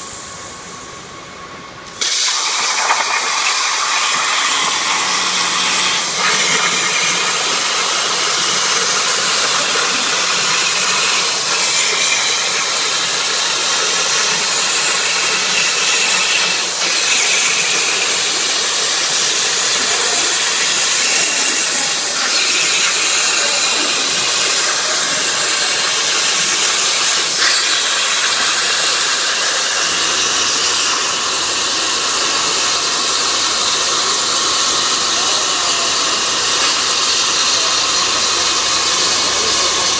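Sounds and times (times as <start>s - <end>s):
plasma cutter hissing: 1.9s - 39.9s.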